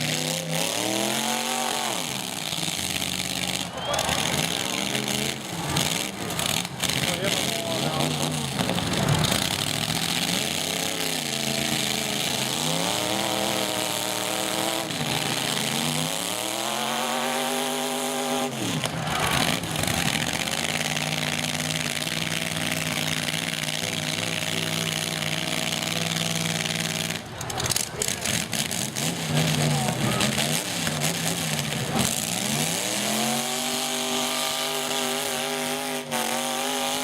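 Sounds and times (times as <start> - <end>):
truck engines revving: 0.0 - 37.0.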